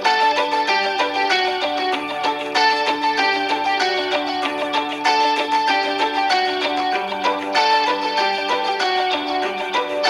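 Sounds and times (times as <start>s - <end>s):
plucked guitar-like ringtone: 0.0s - 10.0s.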